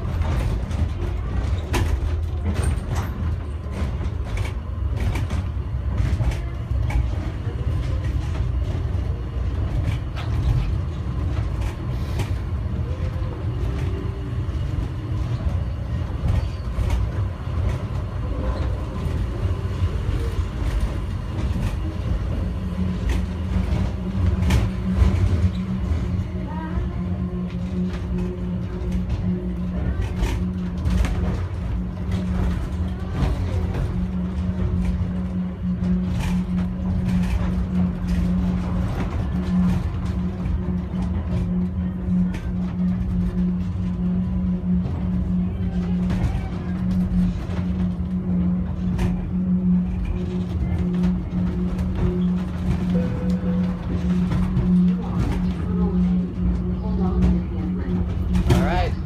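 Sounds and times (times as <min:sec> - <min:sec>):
steady hum: 0:00.0 - 0:59.0
train cabin rumble: 0:00.0 - 0:59.0.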